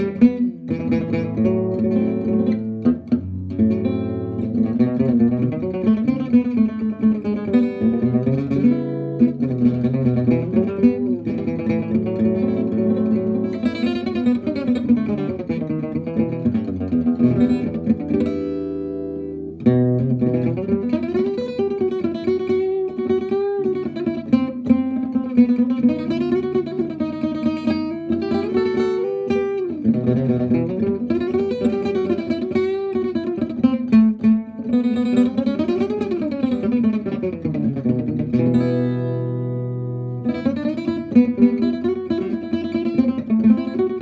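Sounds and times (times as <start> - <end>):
acoustic guitar playing: 0.0 - 44.0.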